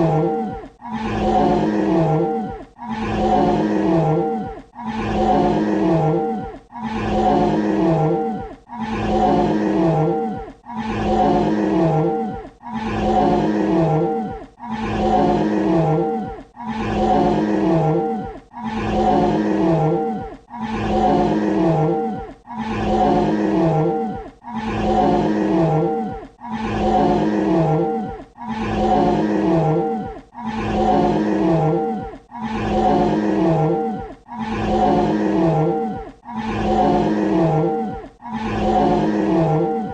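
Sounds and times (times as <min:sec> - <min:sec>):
dinosaur roar: 0:00.0 - 0:39.9.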